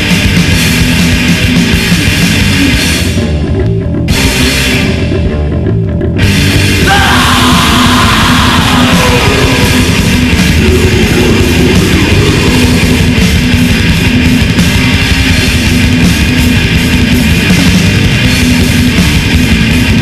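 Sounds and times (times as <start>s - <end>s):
metal band playing: 0.0s - 20.0s.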